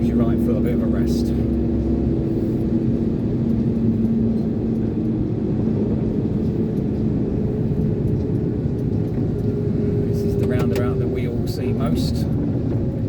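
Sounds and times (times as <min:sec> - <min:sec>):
lorry engine rumble in cab: 0:00.0 - 0:13.0.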